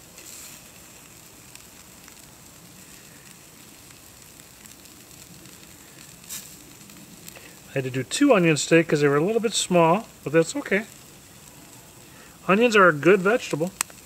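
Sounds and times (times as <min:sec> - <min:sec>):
food sizzling and popping: 0:00.0 - 0:14.0.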